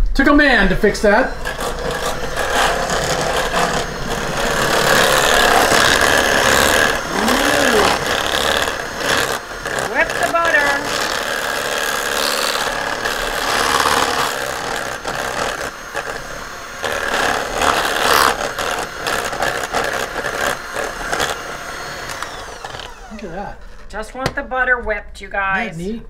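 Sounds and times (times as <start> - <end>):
stand mixer motor whir: 0.9 - 23.9.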